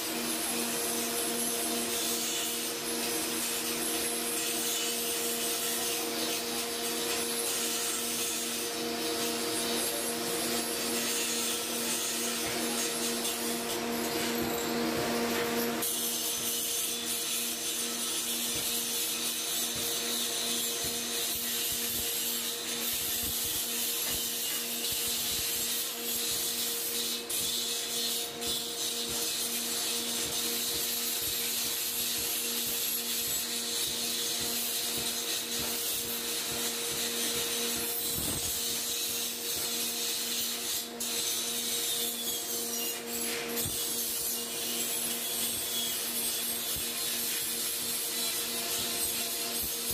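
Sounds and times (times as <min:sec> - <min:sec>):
power grinder grinding: 0:00.0 - 0:49.9.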